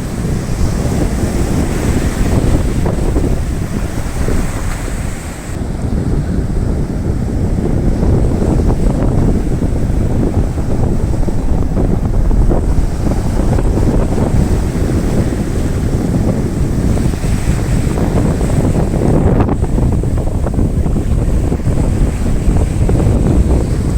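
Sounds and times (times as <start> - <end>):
sea surf breaking: 0.0 - 23.9
wind buffeting microphone: 0.0 - 23.9.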